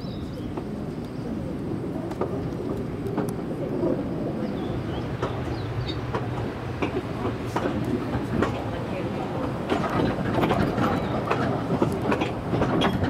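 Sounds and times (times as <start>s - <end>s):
train rumbling slowly: 0.0s - 13.0s.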